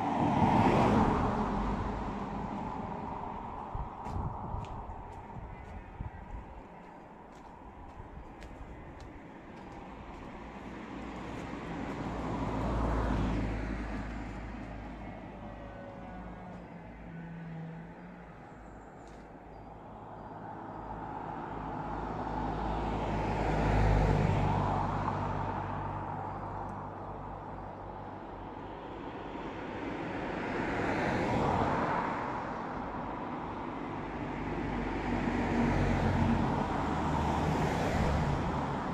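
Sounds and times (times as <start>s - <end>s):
cars passing on road: 0.0s - 38.9s.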